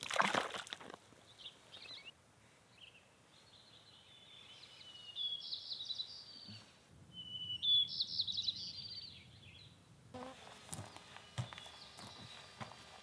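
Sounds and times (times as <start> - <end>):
soft outdoor background noise: 0.0 - 13.0
songbird singing: 1.2 - 13.0.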